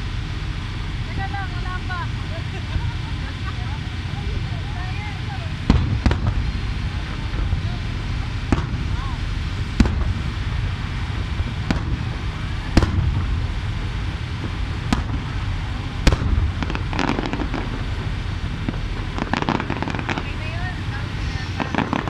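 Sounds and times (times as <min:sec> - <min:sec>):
firework booms: 0:00.0 - 0:22.0
firework crackling: 0:00.0 - 0:22.0
low rumble: 0:00.0 - 0:22.0.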